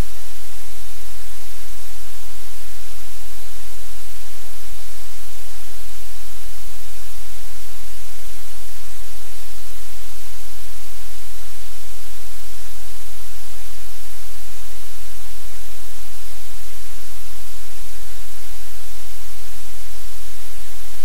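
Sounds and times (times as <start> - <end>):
loud static hiss: 0.0 - 21.0.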